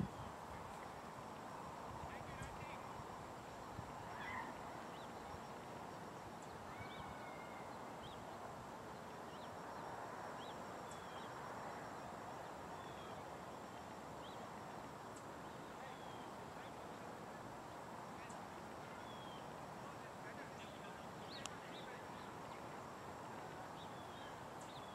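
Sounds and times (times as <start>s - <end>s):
open-air background noise: 0.0s - 24.9s.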